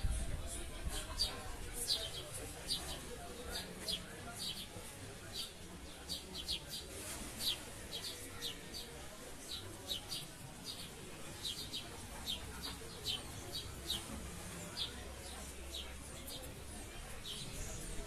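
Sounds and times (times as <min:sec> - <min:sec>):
small birds chirping: 0:01.0 - 0:17.9.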